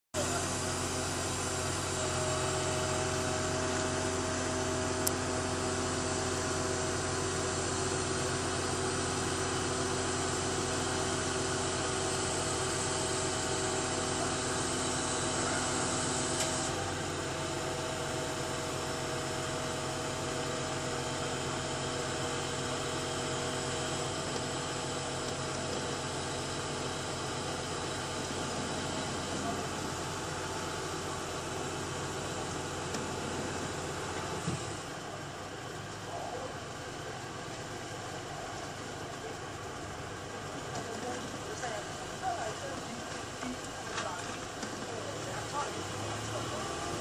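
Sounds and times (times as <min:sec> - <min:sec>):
truck engine humming: 0:00.2 - 0:47.0.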